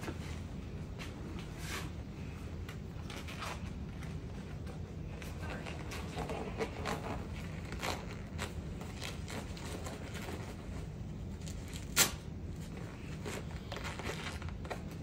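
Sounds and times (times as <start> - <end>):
low steady hum: 0.0 - 15.0
protective suit rustling: 0.0 - 15.0.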